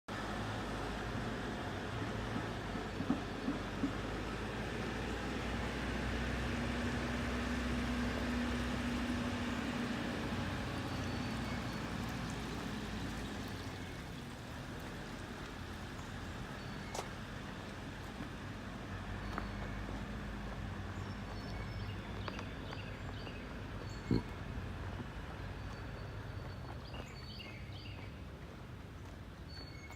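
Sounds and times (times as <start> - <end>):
backhoe diesel engine: 0.1 - 27.8.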